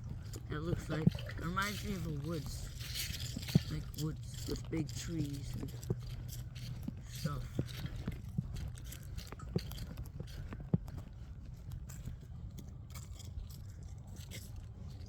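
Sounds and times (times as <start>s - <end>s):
footsteps on a trail: 0.0s - 15.0s
steady low rumble: 0.0s - 15.0s.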